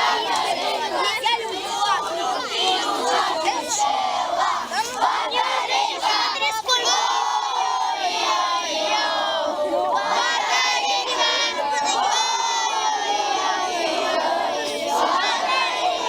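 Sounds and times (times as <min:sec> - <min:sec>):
children shouting and cheering: 0:00.0 - 0:16.0.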